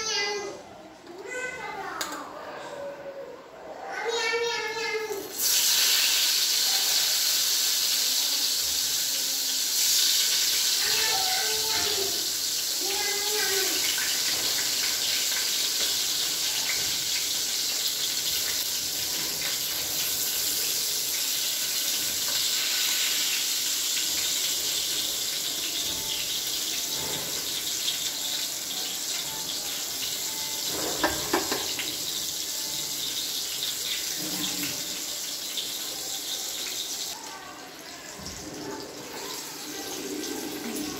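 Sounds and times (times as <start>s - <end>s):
slices sizzling in hot oil: 5.2s - 40.9s.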